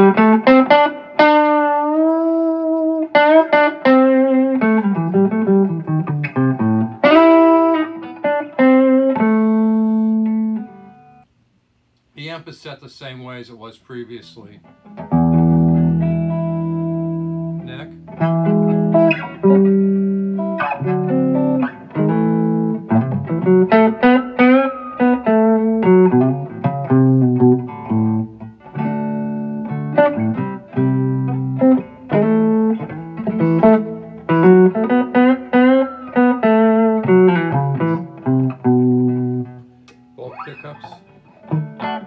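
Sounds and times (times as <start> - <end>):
electric guitar playing: 0.0 - 11.3, 14.6 - 42.0.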